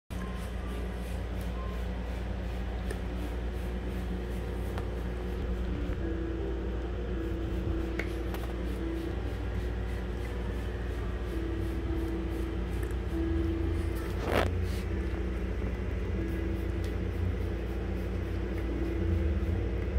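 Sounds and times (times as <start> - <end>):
steady low hum: 0.1 - 19.9.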